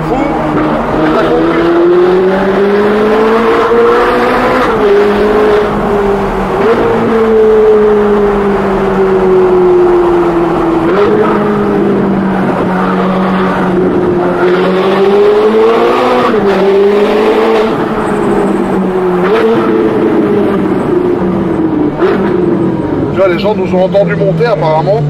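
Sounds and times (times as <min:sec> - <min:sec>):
sports car engine: 0:00.0 - 0:25.0.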